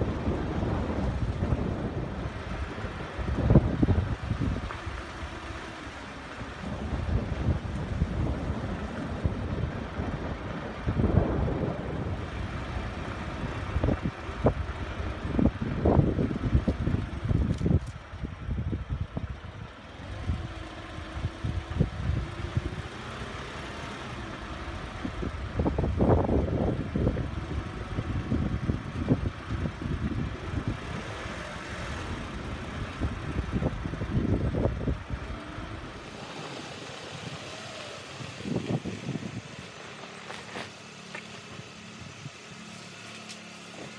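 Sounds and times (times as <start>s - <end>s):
car engine and tyre rumble: 0.0s - 43.9s.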